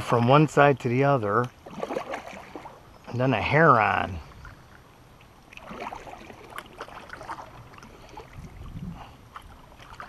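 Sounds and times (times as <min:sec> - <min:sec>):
paddle dipping and splashing: 0:00.0 - 0:03.2, 0:03.8 - 0:10.0.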